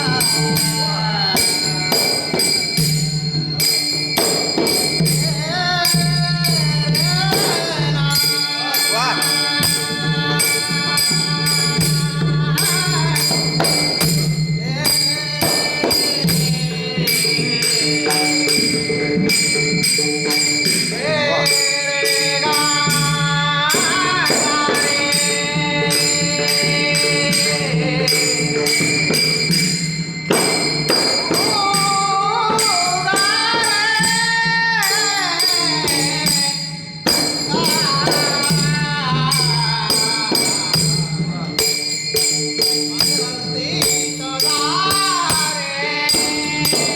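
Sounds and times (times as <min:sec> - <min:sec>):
jingling percussion: 0:00.0 - 0:46.9
man singing devotional song: 0:00.0 - 0:46.9.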